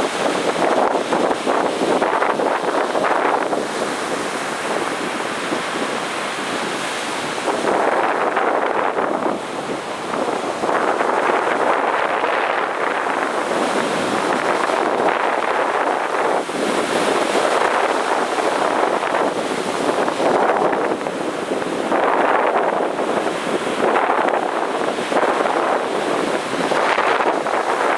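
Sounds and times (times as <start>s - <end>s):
ocean surf breaking: 0.0s - 27.9s
wind buffeting microphone: 0.0s - 27.9s.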